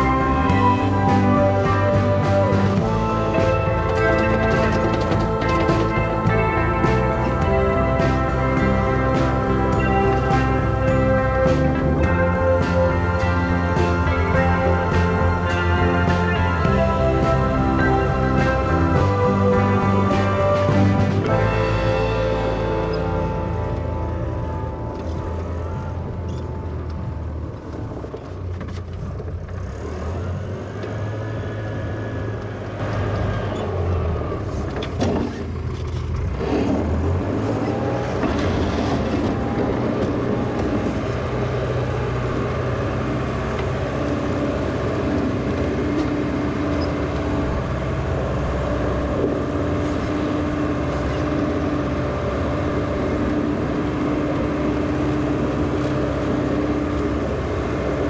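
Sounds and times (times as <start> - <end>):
wheel loader engine running: 0.0 - 58.0.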